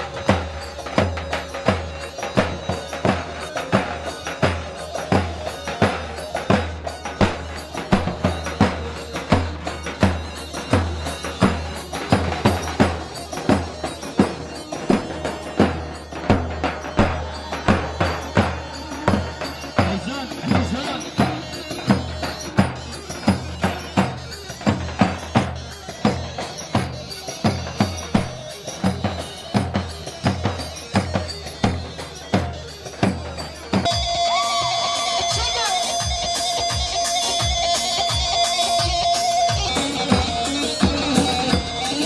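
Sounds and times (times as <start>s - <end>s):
bass drum beating dance rhythm: 0.0s - 42.0s
held melody line: 0.0s - 42.0s.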